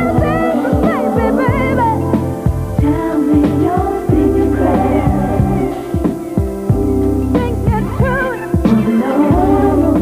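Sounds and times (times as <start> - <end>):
kick drum beat: 0.0 - 4.4, 5.1 - 8.8
bass line: 0.0 - 10.0
women singing: 0.0 - 10.0.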